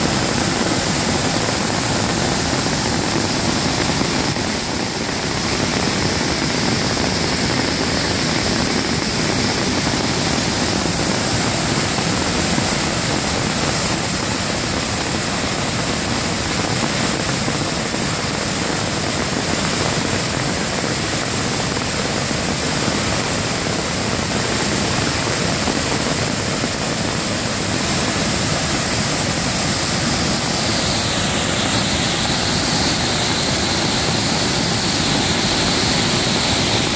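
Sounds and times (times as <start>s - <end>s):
water rushing over rock ledges: 0.0s - 36.9s.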